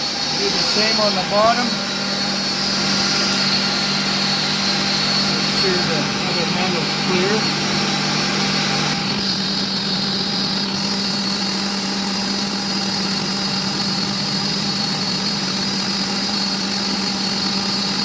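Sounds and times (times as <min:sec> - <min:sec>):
machinery high whine: 0:00.0 - 0:18.0
workshop machinery humming: 0:00.0 - 0:18.0.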